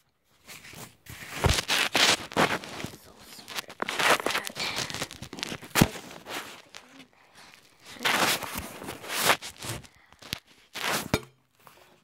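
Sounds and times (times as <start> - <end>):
plastic packaging crinkling: 0.5 - 11.2.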